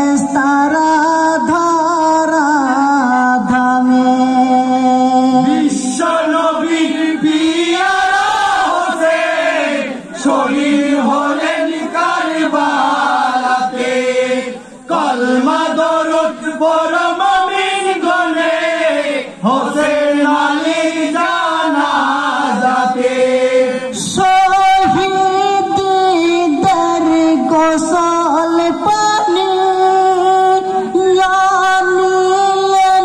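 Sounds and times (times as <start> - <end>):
men chanting: 0.1 - 33.0.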